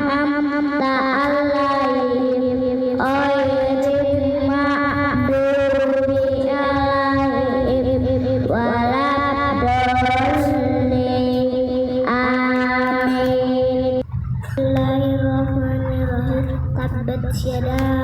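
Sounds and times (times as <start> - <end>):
child chanting recitation: 0.0 - 18.0.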